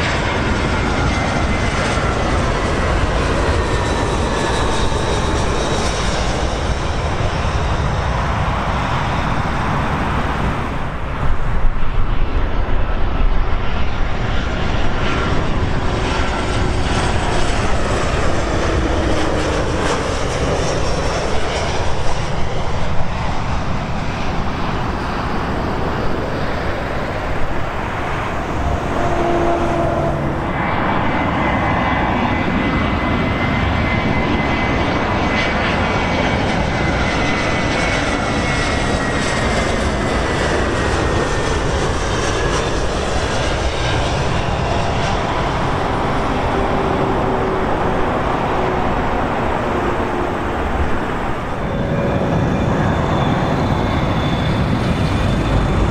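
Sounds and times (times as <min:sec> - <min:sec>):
high engine whine: 0:00.0 - 0:55.9
jet engines rumbling: 0:00.0 - 0:55.9.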